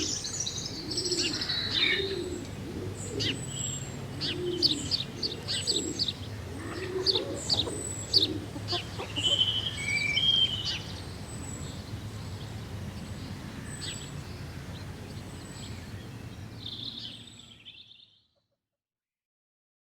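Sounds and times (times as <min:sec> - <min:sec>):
songbirds chirping and whistling: 0:00.0 - 0:18.2.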